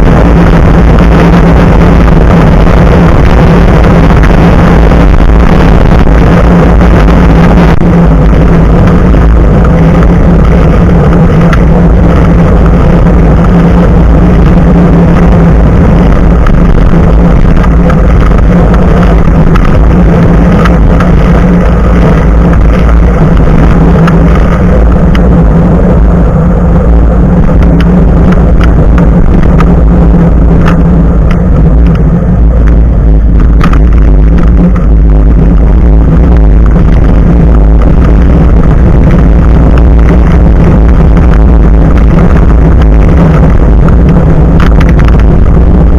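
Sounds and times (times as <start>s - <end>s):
low hum: 0.0s - 45.9s
wind and tyre-on-road noise: 0.0s - 45.9s.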